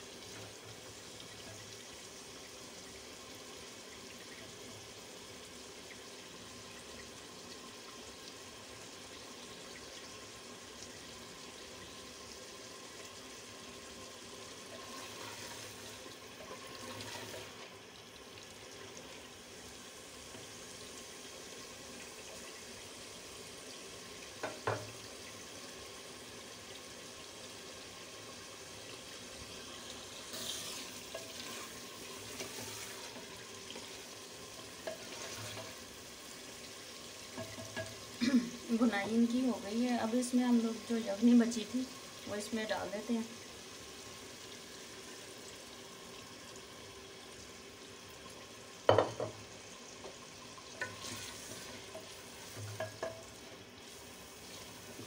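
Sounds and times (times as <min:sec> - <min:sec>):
meat sizzling in a pot: 0:00.0 - 0:55.0.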